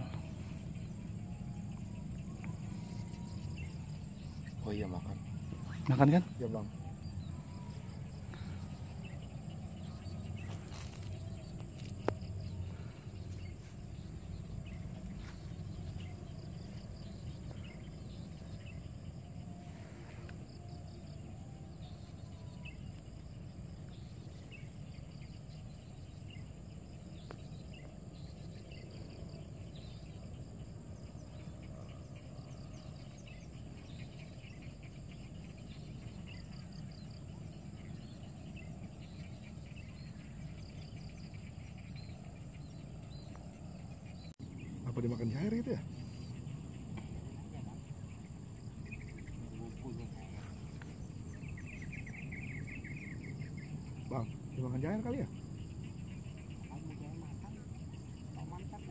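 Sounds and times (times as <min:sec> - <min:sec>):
low steady rumble: 0:00.0 - 0:54.5
faint chirps: 0:00.0 - 0:58.9
high insect drone: 0:00.0 - 0:58.9.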